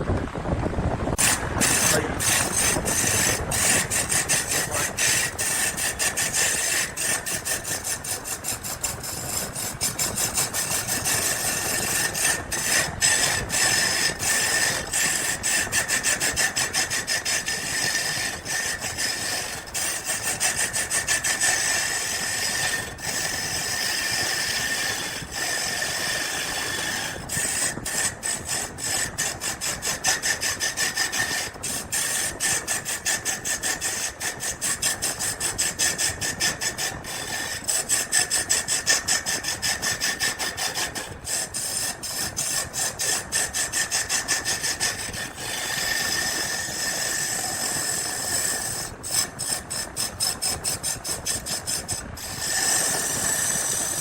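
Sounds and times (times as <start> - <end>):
faint motor whine: 0.0 - 54.0
power tool scraping wood: 0.9 - 54.0.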